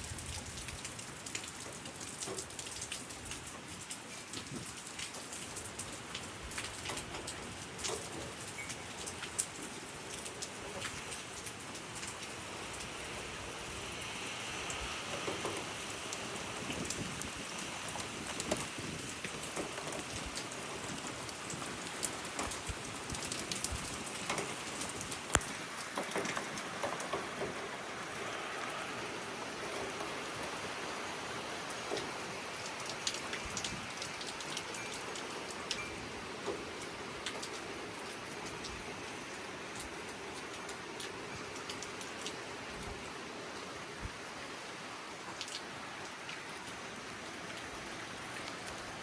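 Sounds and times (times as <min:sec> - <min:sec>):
heavy rain falling: 0:00.0 - 0:49.0
raindrops tapping on surfaces: 0:00.0 - 0:49.0.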